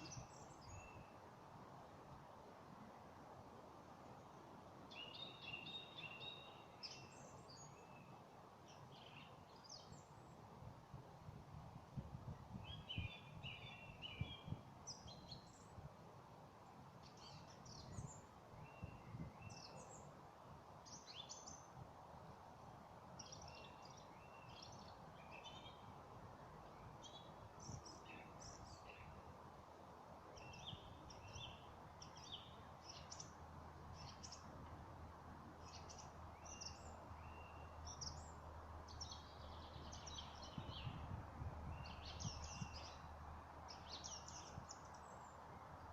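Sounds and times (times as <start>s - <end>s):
low background hiss: 0.0s - 45.9s
songbirds chirping: 0.0s - 45.9s.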